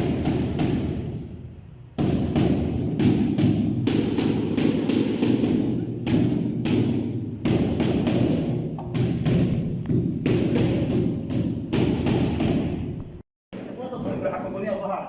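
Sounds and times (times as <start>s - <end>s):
rapid repeated thuds: 0.0s - 13.2s.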